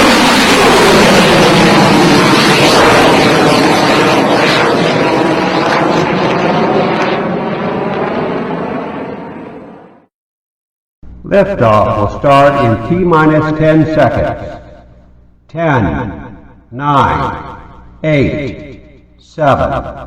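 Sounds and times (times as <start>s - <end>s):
rocket engines roaring at liftoff: 0.0s - 10.1s, 11.1s - 20.0s.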